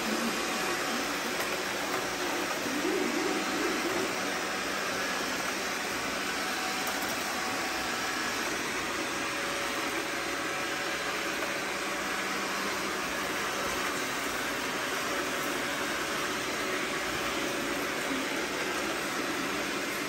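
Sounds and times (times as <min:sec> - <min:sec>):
robot vacuums whirring: 0:00.0 - 0:20.0.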